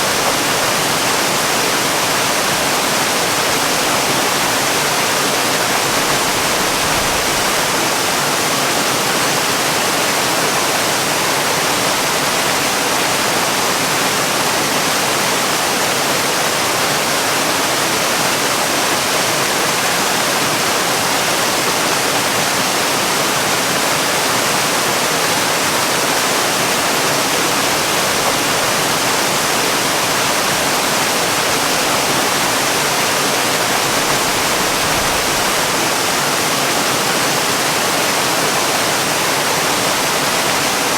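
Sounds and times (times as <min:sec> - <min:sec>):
waterfall hiss: 0:00.0 - 0:40.9.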